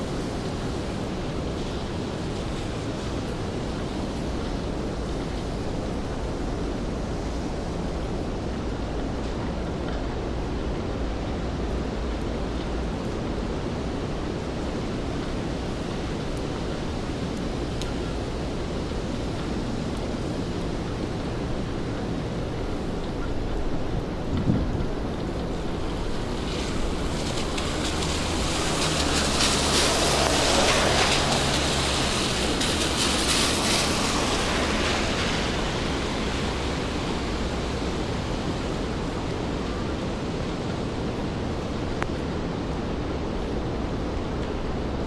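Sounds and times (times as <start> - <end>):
steady rain: 0.0 - 45.0
vehicle tyres hissing on wet road: 0.0 - 45.0.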